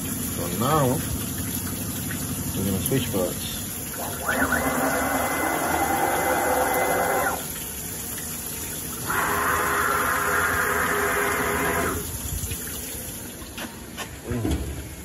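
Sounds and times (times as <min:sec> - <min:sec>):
coolant spraying: 0:00.0 - 0:15.0.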